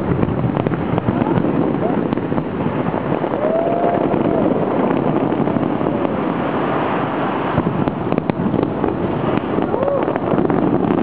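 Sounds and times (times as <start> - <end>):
dense rushing outdoor noise: 0.0 - 11.0.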